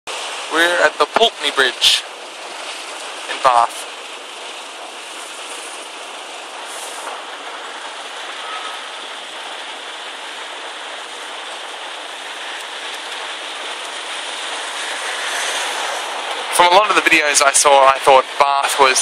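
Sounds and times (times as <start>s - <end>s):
water rushing over a weir: 0.1s - 19.0s.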